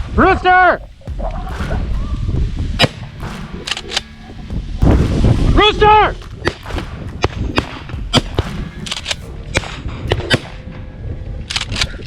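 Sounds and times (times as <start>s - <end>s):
shotgun reports: 0.0s - 10.8s.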